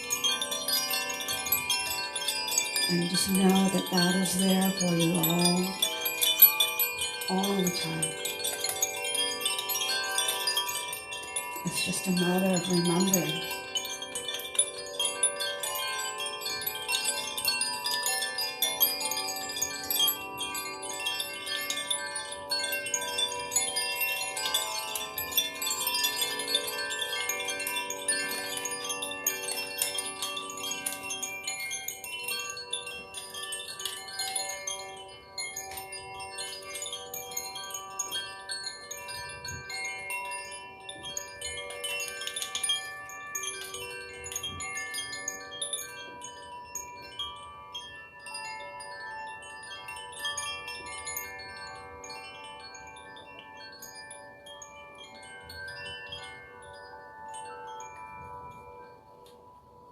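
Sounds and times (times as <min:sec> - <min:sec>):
chimes ringing: 0:00.0 - 0:59.8.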